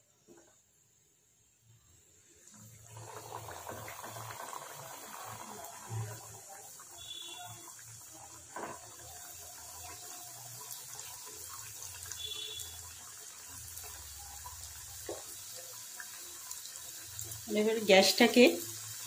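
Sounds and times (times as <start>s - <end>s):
oil bubbling and sizzling: 0.0s - 19.0s.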